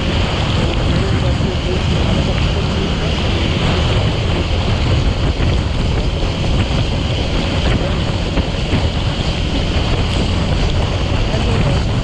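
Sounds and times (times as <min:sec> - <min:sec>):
motorcycle engine: 0:00.0 - 0:12.0
wind rushing over microphone: 0:00.0 - 0:12.0.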